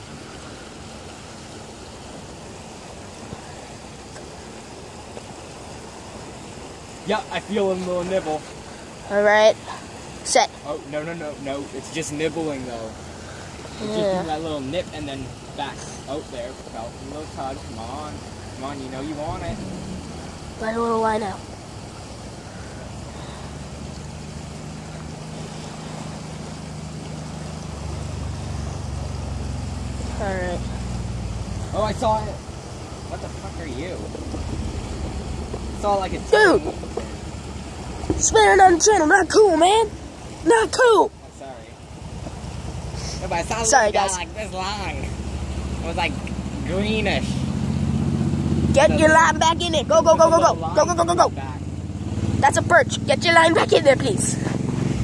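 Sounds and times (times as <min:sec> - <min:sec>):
faint hiss: 0:00.0 - 0:49.9
flowing river water: 0:00.0 - 0:55.0
low motor hum: 0:11.0 - 0:55.0.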